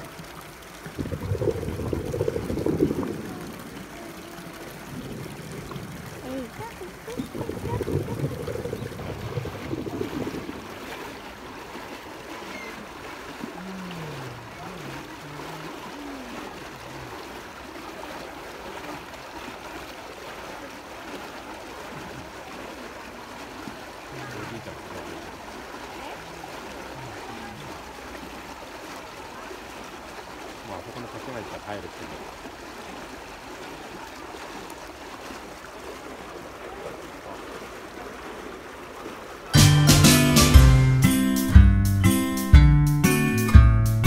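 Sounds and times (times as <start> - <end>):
water pouring into pool: 0.0 - 41.0.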